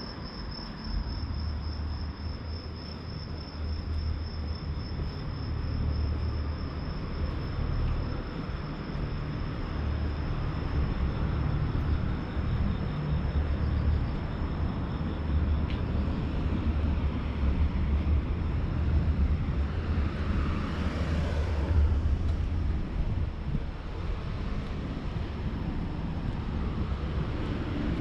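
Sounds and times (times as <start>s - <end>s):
passing vehicle: 0.0s - 28.0s
steady low rumble: 0.0s - 28.0s.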